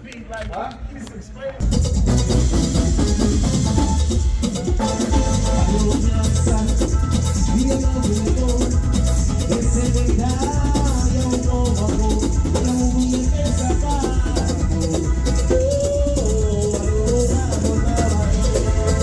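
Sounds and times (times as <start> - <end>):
heavy bass: 1.6 - 19.0
live band playing latin music: 1.6 - 19.0
shaker rhythm: 1.6 - 19.0.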